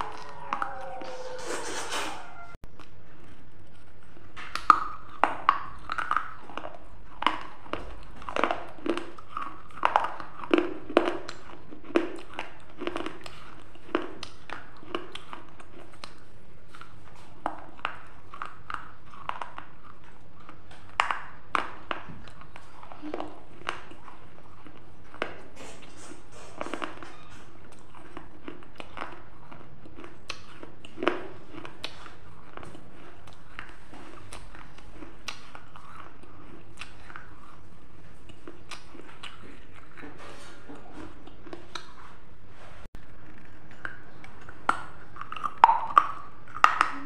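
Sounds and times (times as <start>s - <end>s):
wet mouth sounds: 4.6s - 42.2s, 43.2s - 47.0s.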